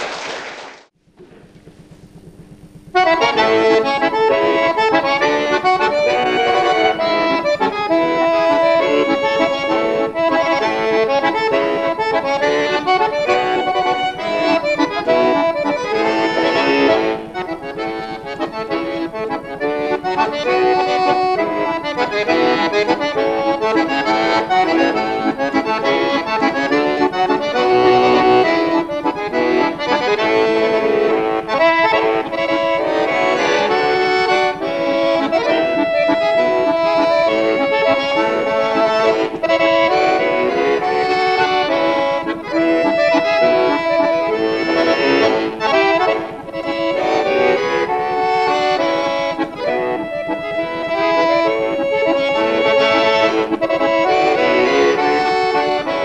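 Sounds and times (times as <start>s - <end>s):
button accordion playing: 2.9s - 56.0s.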